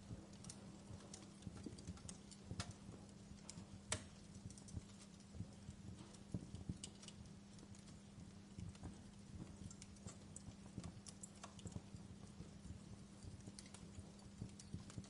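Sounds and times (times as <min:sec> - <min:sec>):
low steady hum: 0:00.0 - 0:15.0
wood fire crackling: 0:00.0 - 0:15.0.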